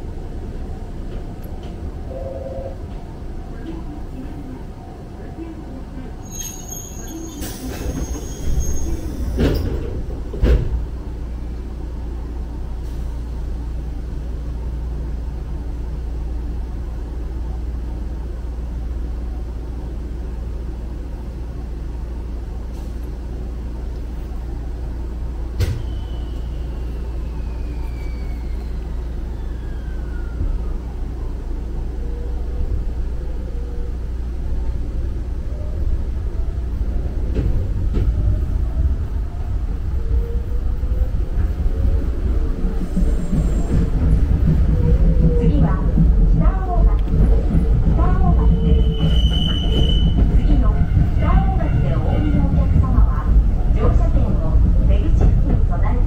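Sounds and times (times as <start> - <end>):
train car hum and rumble: 0.0 - 56.0.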